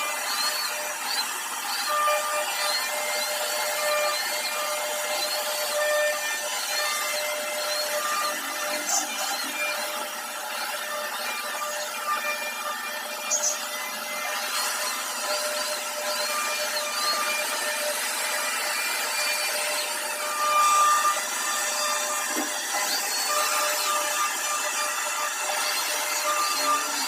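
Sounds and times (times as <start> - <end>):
cutting noise: 0.0 - 27.0
router spindle whining: 0.0 - 27.0.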